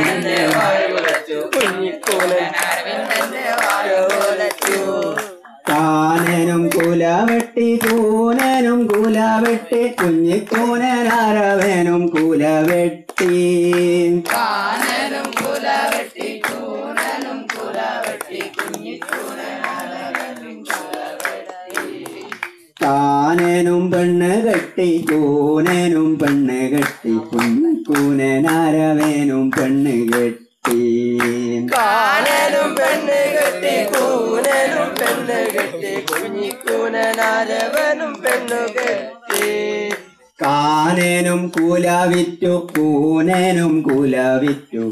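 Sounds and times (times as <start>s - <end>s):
group singing in chorus: 0.0s - 44.9s
hand claps: 0.0s - 44.9s.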